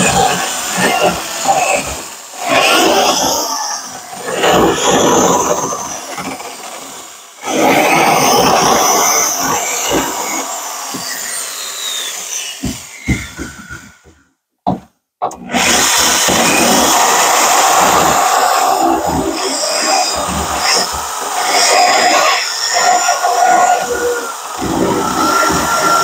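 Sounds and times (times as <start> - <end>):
electric drill grinding metal: 0.0 - 14.1, 15.3 - 26.0.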